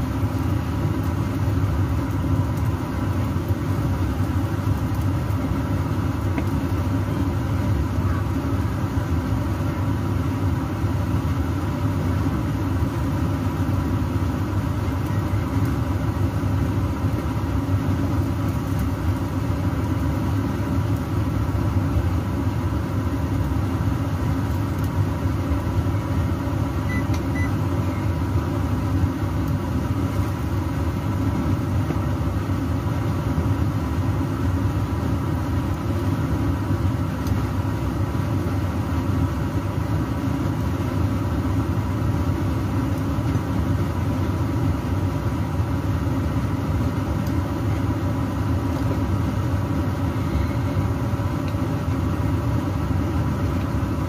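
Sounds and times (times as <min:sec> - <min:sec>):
extractor fan humming: 0:00.0 - 0:54.0.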